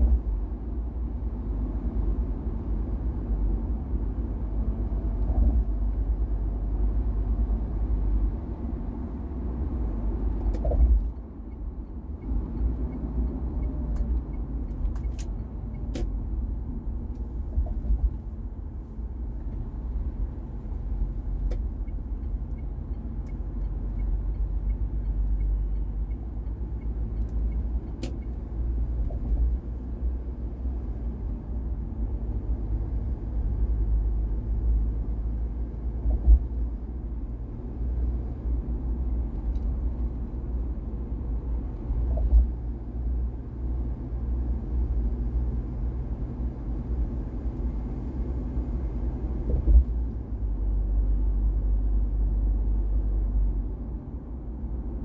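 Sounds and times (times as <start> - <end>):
car driving rumble: 0.0 - 55.0.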